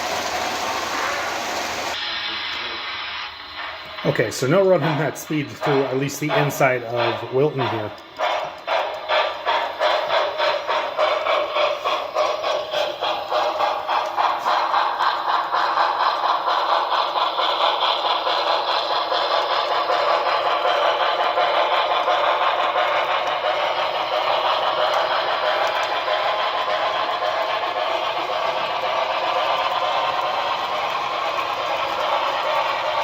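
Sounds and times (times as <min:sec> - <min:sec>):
steam exhaust chuffs: 0:00.0 - 0:33.0
wheels clattering on track: 0:03.6 - 0:33.0.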